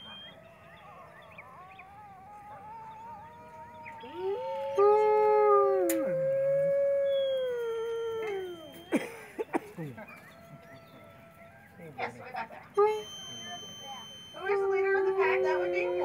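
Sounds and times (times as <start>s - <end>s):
wolves howling: 0.0s - 9.0s, 9.8s - 16.0s.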